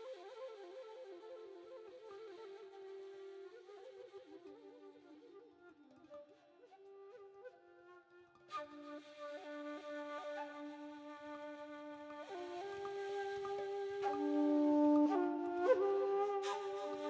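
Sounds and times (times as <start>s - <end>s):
bamboo flute slow melody: 0.0s - 17.0s.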